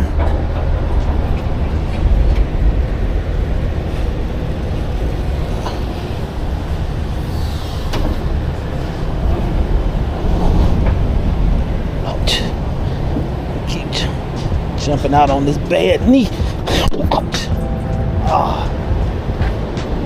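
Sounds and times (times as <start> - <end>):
van engine rumbling: 0.0 - 20.0.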